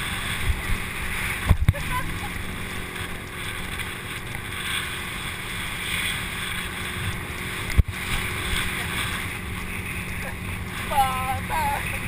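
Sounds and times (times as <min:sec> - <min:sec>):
water rushing: 0:00.0 - 0:12.0
wind buffeting microphone: 0:00.0 - 0:12.0.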